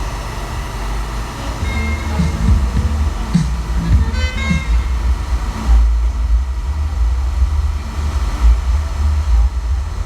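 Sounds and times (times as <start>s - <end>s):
deep loud bass from sound system: 0.0s - 10.0s.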